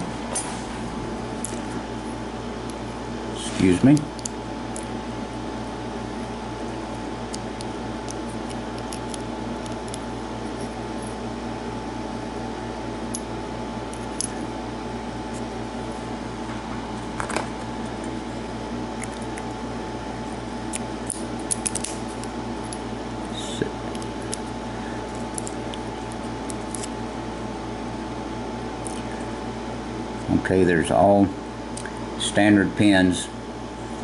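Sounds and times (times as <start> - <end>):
room hum: 0.0 - 34.0.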